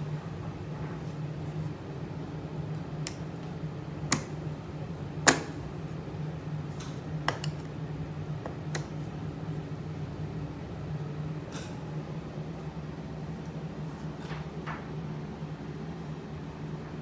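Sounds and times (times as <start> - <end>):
humidifier humming: 0.0 - 17.0.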